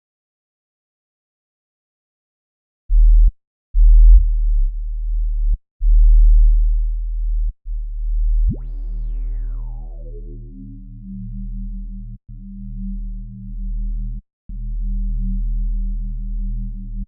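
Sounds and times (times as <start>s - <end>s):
deep sub-bass synth notes: 2.9s - 17.0s.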